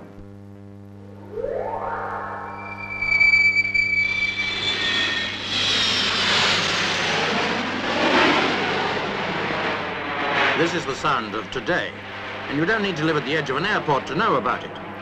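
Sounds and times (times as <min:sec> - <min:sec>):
jet aircraft passing low: 0:01.2 - 0:15.0.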